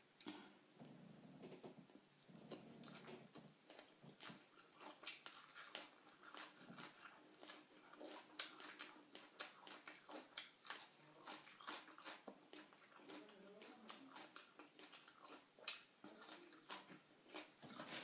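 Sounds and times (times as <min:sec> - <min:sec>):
person chewing food: 0:02.3 - 0:18.0.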